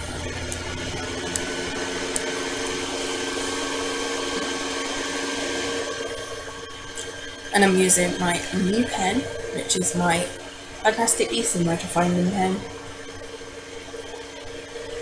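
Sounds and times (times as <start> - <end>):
motor hum with held tones: 0.0 - 15.0.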